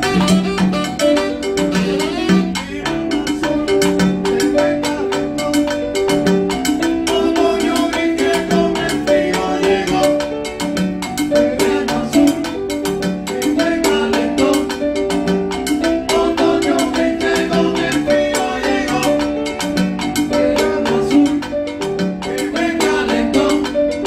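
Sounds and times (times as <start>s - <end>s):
hand drums: 0.0s - 24.0s
piano figures: 0.0s - 24.0s.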